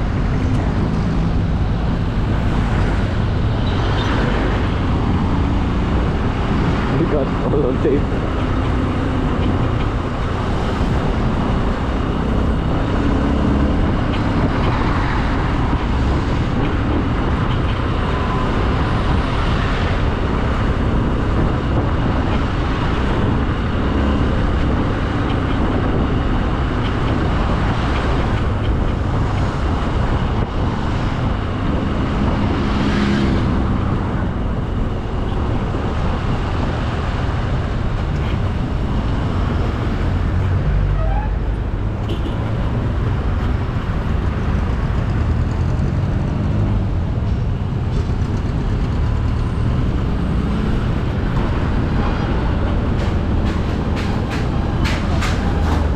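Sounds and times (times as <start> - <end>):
wind rush on microphone: 0.0 - 55.9.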